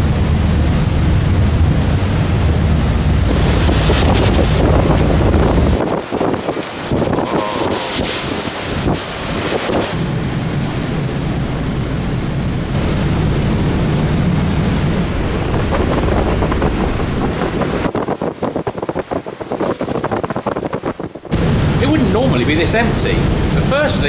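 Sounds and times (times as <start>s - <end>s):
rough sea rushing: 0.0s - 24.0s
wind buffeting microphone: 0.0s - 24.0s.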